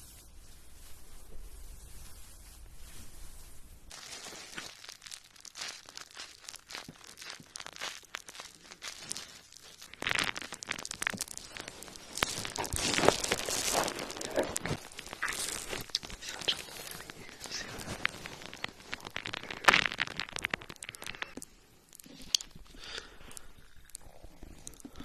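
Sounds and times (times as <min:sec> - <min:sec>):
close crinkling and crackling: 0:00.0 - 0:25.0.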